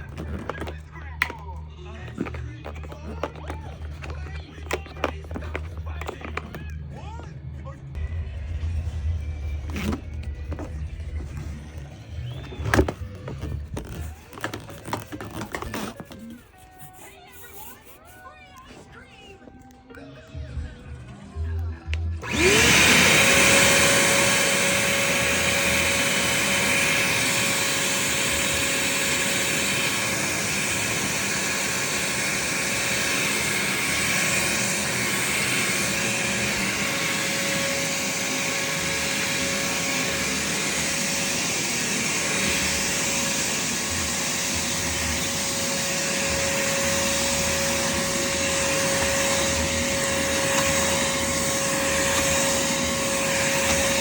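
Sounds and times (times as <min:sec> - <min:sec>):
shop vacuum motor whining: 0:00.0 - 0:17.1, 0:21.9 - 0:54.0.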